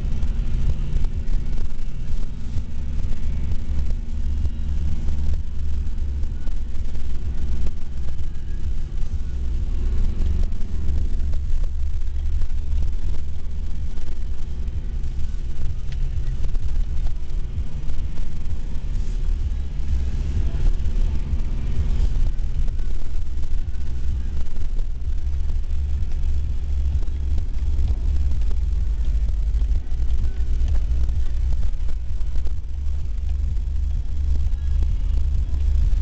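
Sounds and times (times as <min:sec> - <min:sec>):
car engine revving: 0:00.0 - 0:36.0
heavy low rumble: 0:00.0 - 0:36.0.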